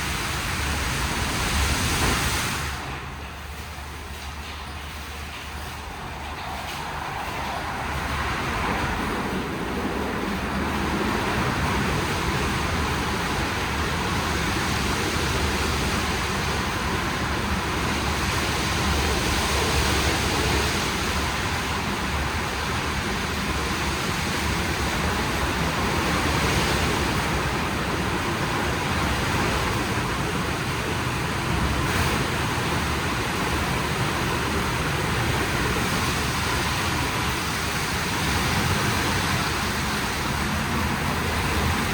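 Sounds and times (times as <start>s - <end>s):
car wash water spray rushing: 0.0s - 41.9s.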